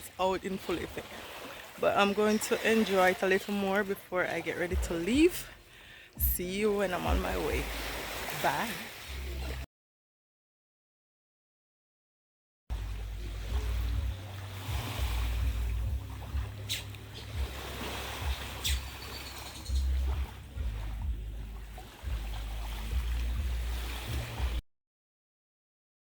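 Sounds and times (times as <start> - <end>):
ocean surf: 0.0 - 9.6, 12.7 - 24.6.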